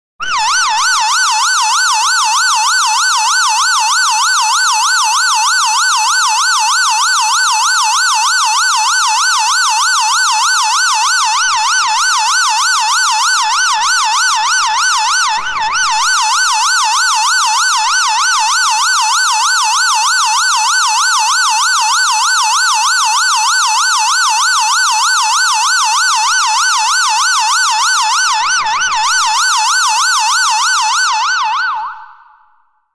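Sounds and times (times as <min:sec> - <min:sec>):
ambulance siren fast yelp: 0:00.2 - 0:32.3.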